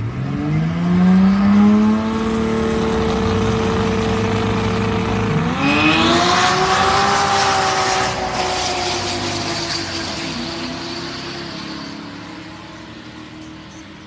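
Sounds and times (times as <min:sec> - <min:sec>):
racing car engine revving: 0:00.0 - 0:13.2.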